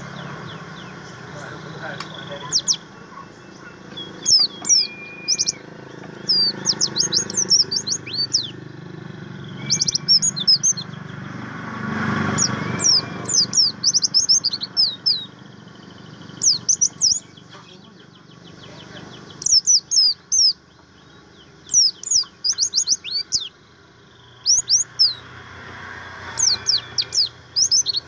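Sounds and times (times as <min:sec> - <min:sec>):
bird singing high chirps: 0:00.0 - 0:28.0.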